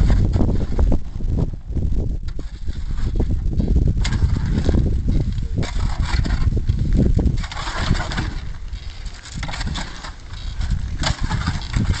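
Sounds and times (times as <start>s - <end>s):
wind rumbling on microphone: 0.0s - 12.0s
scraping and rustling: 2.3s - 12.0s.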